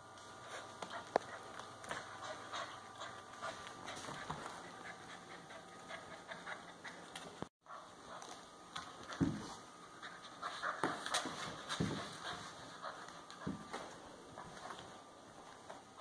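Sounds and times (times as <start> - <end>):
puppy panting: 0.4 - 8.4, 9.9 - 14.9.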